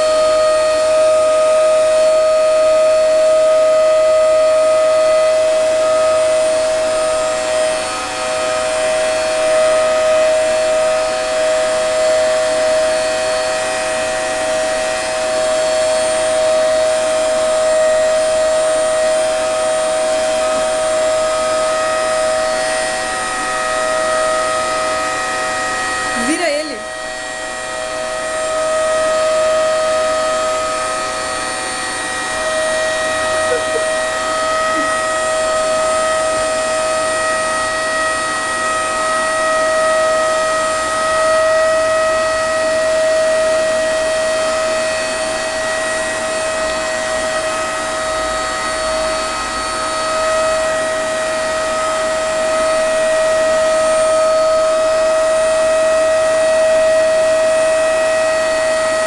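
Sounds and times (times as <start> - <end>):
vacuum cleaner whining: 0.0 - 59.0.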